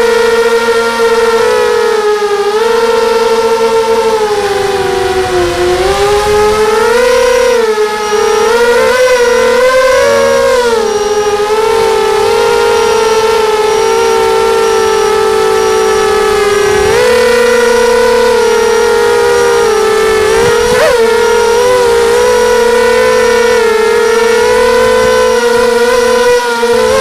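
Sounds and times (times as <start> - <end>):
quadcopter motors and propellers whining: 0.0 - 27.0.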